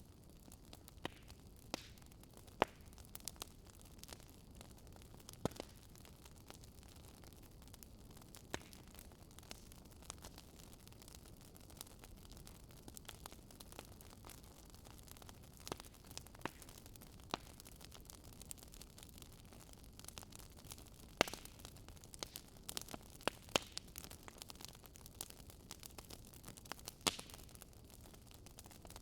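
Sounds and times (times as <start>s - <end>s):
fireplace crackling: 0.0s - 29.0s.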